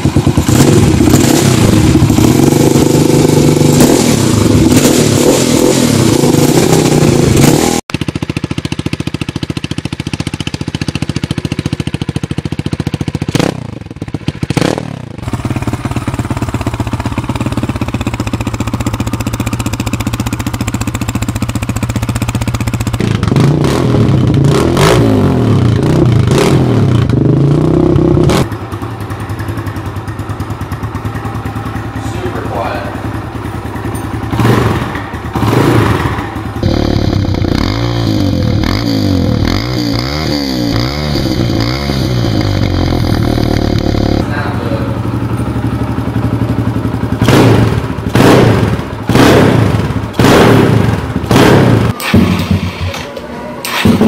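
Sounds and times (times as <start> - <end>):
dirt bike engine revving: 0.0 - 8.3, 12.9 - 13.8, 14.4 - 29.8, 30.4 - 52.8
dirt bike engine idling: 0.0 - 24.5, 26.9 - 52.0.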